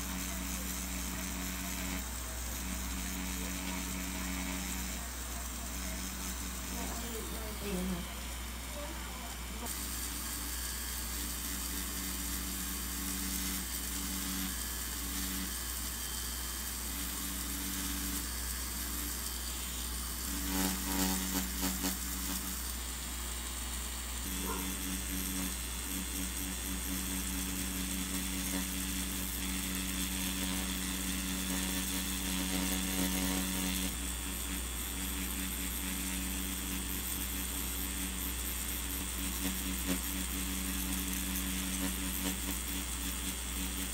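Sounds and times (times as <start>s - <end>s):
tattoo machine buzzing: 0.0s - 43.9s.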